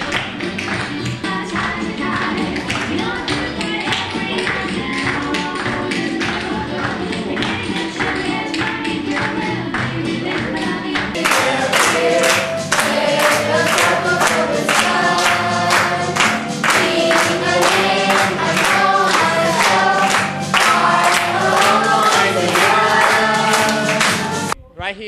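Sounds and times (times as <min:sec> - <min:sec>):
group of voices singing: 0:00.0 - 0:24.6
upbeat recorded song: 0:00.0 - 0:25.0.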